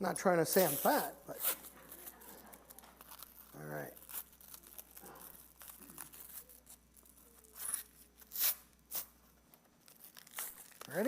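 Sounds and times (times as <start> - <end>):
belt ripping and rustling: 0.6 - 11.0.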